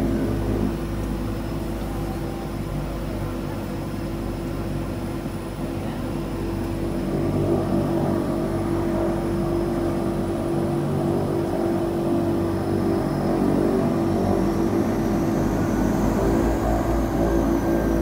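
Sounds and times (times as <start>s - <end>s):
turboprop engines droning: 0.0s - 18.0s.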